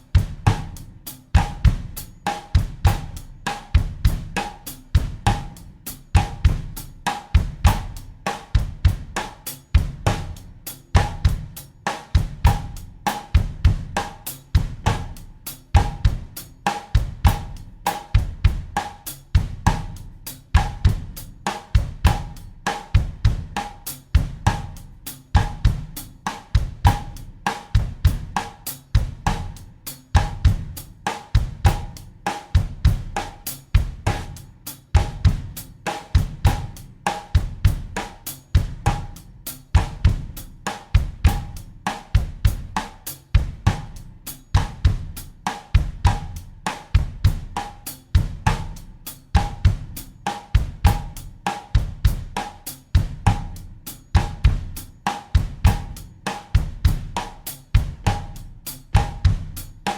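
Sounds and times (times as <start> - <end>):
drum kit bossa nova groove: 0.0 - 59.9.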